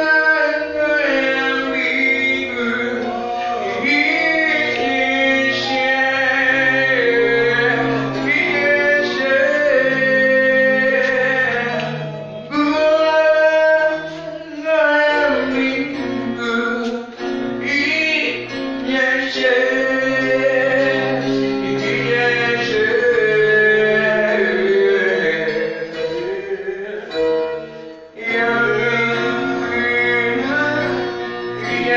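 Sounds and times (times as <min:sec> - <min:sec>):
men singing: 0:00.0 - 0:27.5, 0:28.2 - 0:31.9
guitar accompaniment: 0:00.0 - 0:31.9.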